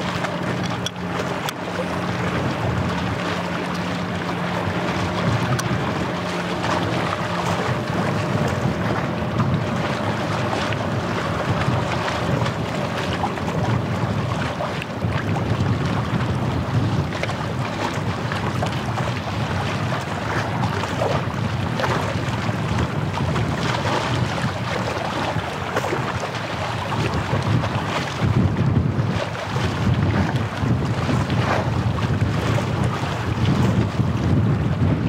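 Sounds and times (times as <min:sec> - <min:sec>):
small waves lapping: 0:00.0 - 0:35.0
wind buffeting microphone: 0:00.0 - 0:35.0.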